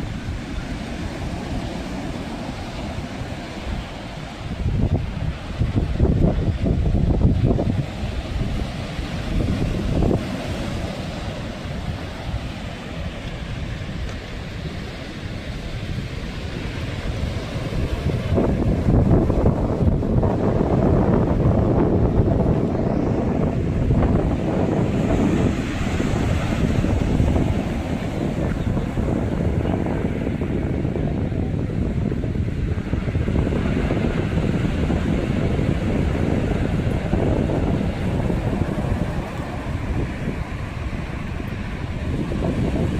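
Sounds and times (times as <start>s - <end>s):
sea waves washing: 0.0s - 42.9s
wind rumbling on microphone: 0.0s - 42.9s.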